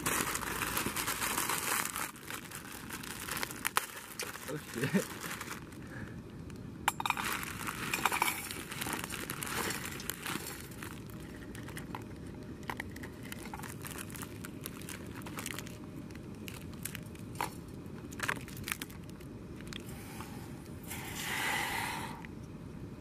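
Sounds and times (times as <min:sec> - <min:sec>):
dry noodles crunching in metal pot: 0:00.0 - 0:05.8, 0:07.0 - 0:19.8.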